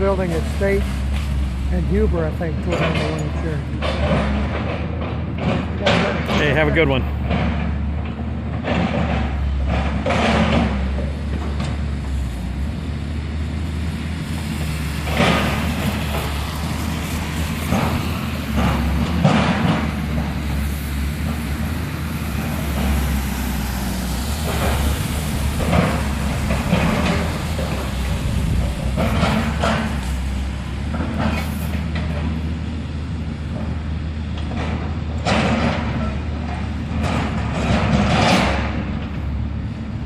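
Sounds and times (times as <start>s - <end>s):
heavy machine engine running: 0.0s - 40.0s.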